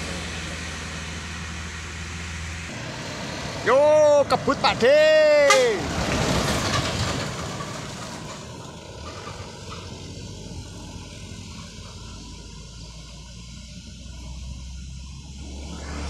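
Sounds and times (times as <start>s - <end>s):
truck engine driving away: 0.0s - 16.0s.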